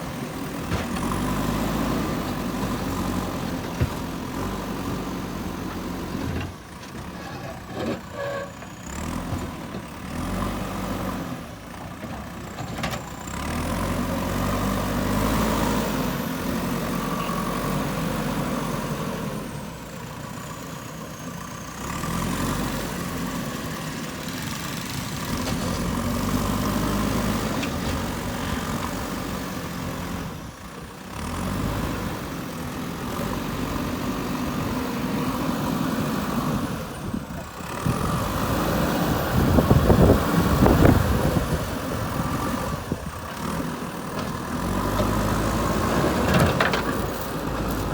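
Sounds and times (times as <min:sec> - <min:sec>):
diesel engine revving: 0:00.1 - 0:06.4, 0:08.0 - 0:11.8, 0:13.2 - 0:19.8, 0:21.5 - 0:47.9.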